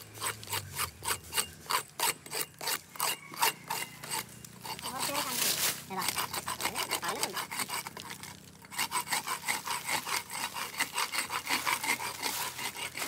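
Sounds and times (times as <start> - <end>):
hand saw cutting wood: 0.0 - 13.0.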